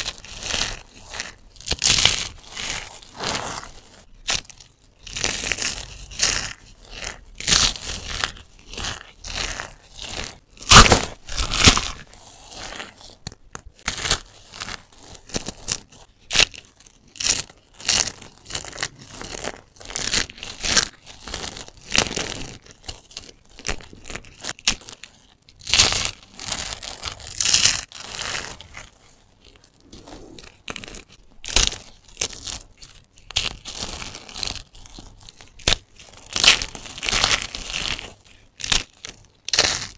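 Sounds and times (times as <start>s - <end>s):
soap cubes crunching: 0.0s - 39.9s.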